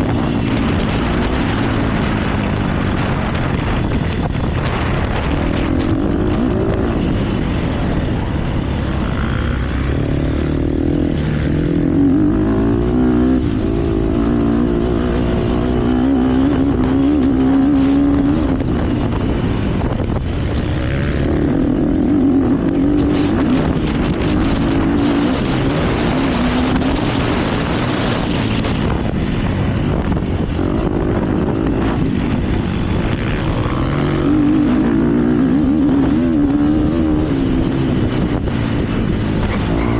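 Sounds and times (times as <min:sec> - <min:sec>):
rush of wind: 0:00.0 - 0:39.9
motocross bike engine revving: 0:04.6 - 0:19.1, 0:20.2 - 0:28.8, 0:30.4 - 0:39.9.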